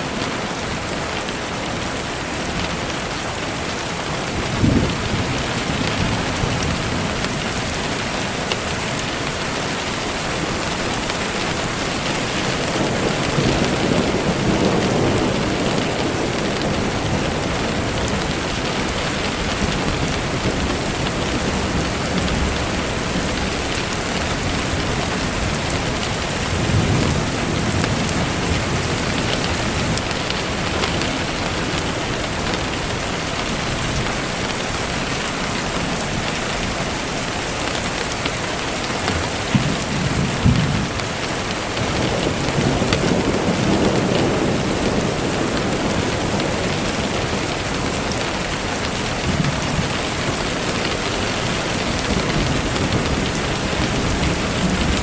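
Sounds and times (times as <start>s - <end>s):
steady rain hiss: 0.0s - 55.0s
thunder rumbling: 0.0s - 55.0s.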